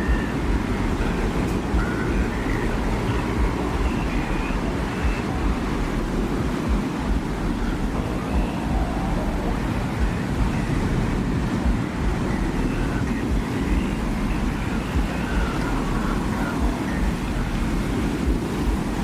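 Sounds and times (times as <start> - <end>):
faint airy wind wisps: 0.0 - 19.0
low wind rumble: 0.0 - 19.0.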